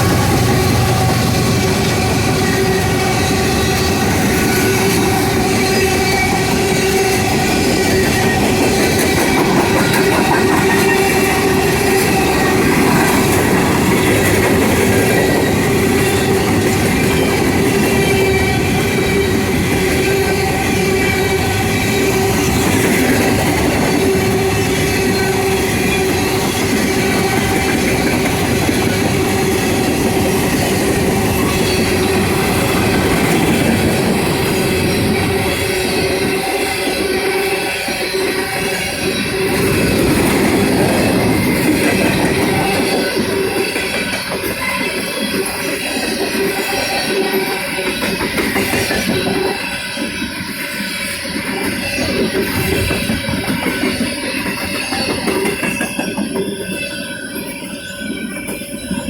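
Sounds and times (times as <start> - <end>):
train cars rumbling and clattering: 0.0 - 59.0
wheels whining: 0.0 - 59.0.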